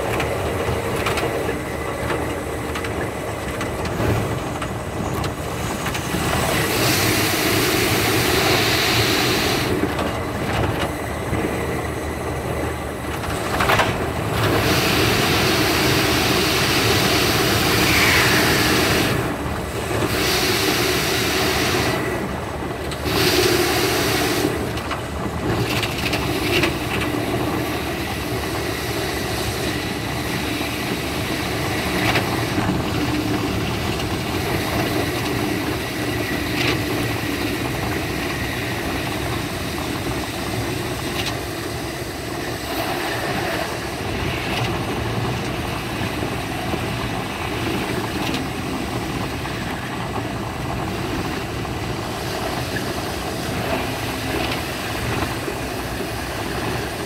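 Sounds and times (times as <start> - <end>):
electric train running: 0.0 - 57.0.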